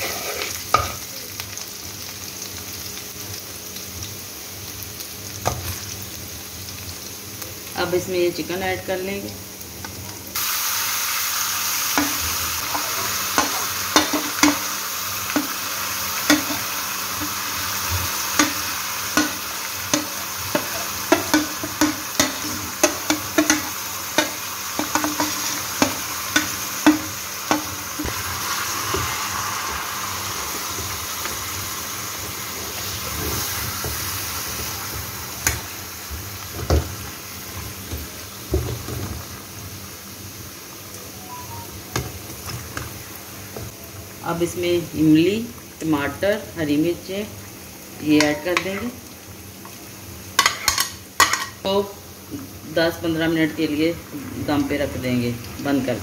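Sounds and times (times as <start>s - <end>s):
chicken sizzling in hot oil: 0.0s - 56.0s.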